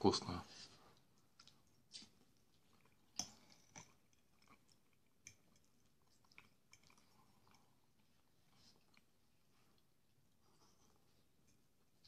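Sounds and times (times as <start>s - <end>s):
faint chewing with clicks: 0.7s - 12.0s.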